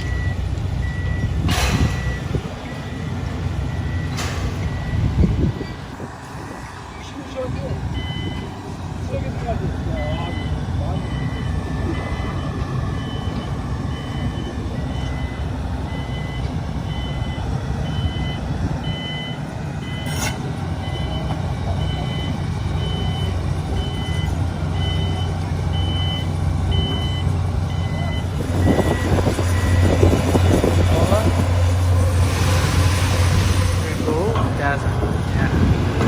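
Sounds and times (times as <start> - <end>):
two-tone reversing alarm beeping: 0.0 - 5.8, 7.9 - 8.6, 9.8 - 33.6
diesel engine rumble: 0.0 - 36.0.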